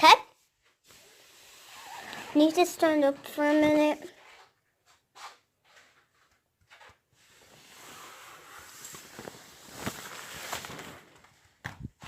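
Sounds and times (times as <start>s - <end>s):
rustling and shuffling: 0.3s - 12.0s.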